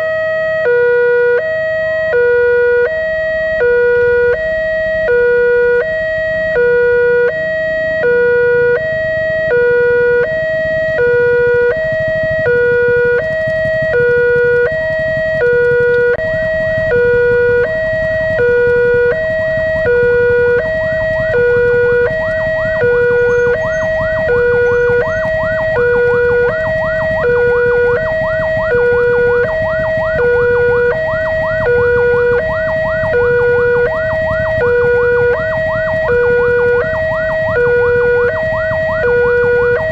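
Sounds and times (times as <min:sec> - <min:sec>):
two-tone crossing alarm chime: 0:02.1 - 0:39.9.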